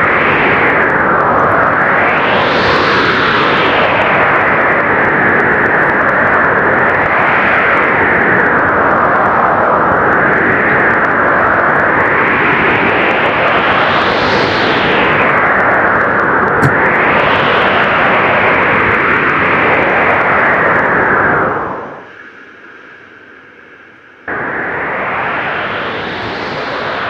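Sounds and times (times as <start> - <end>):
strong blizzard wind: 0.0 - 22.3, 24.3 - 27.0.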